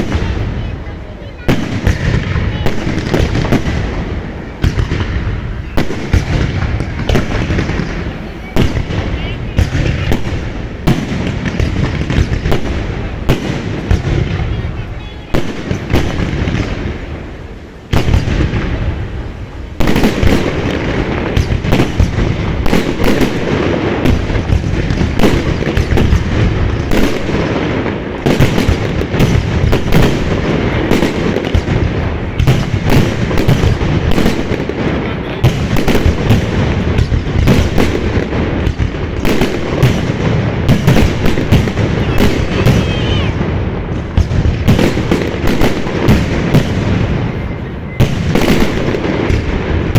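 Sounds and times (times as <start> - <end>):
deep fireworks booms: 0.0 - 49.9
fireworks bangs and crackling: 0.0 - 49.9.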